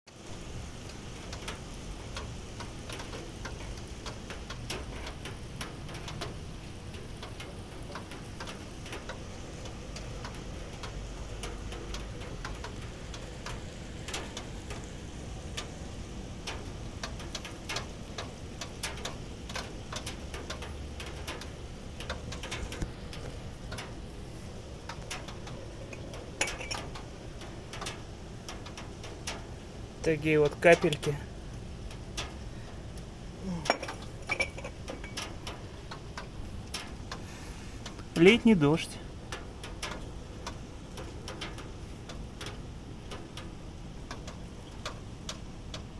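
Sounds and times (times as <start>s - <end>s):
raindrops ticking on hard surface: 0.1s - 45.9s
steady low background noise: 0.1s - 45.9s.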